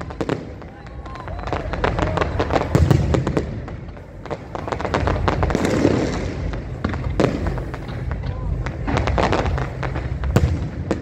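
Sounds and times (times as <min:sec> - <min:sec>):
fireworks bursts and bangs: 0:00.0 - 0:11.0
fireworks crackling: 0:00.0 - 0:11.0.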